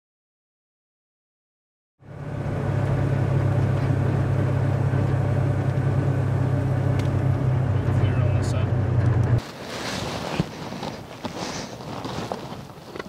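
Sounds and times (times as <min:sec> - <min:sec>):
vehicle driving on gravel: 0:02.0 - 0:13.0.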